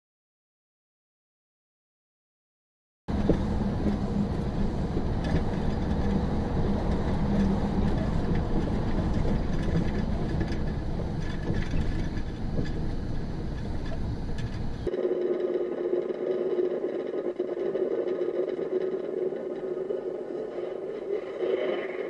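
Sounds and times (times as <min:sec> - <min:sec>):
vehicle rumbling: 0:03.1 - 0:22.0.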